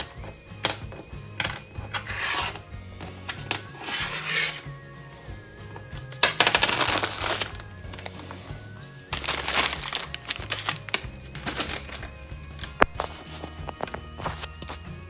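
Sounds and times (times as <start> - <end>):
hard objects clattering and jingling: 0.0 - 14.8
background music: 0.0 - 15.0.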